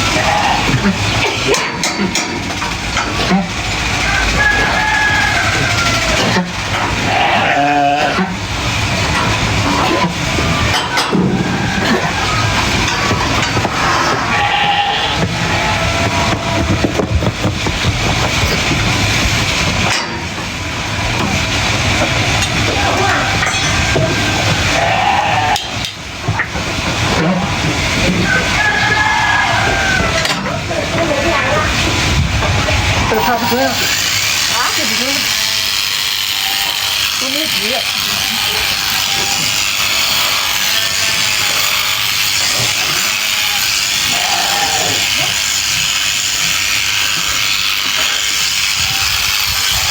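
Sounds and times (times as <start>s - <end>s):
shearing clippers clattering: 0.0s - 49.9s.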